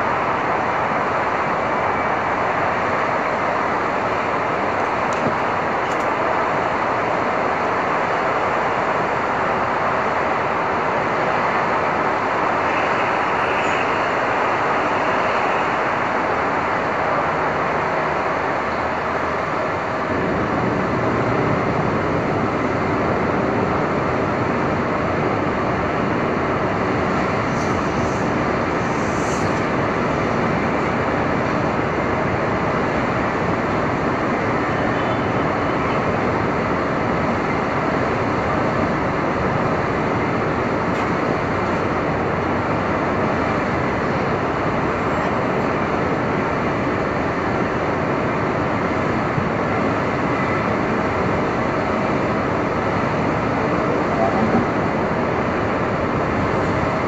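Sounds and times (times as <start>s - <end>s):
city street traffic in storm: 0.0s - 57.0s.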